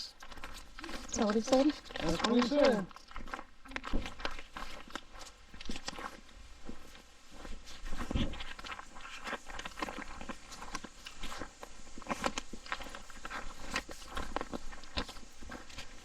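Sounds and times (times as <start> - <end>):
footsteps crunching on trail: 0.0 - 16.0.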